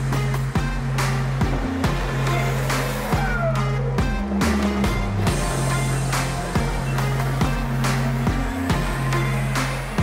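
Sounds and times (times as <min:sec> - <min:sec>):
held bass line: 0:00.0 - 0:10.0.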